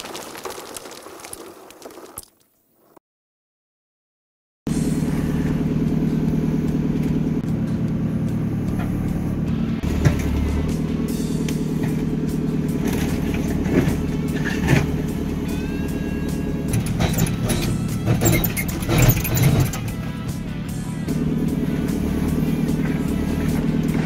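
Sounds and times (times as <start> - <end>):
diesel engine running: 4.7 - 24.0.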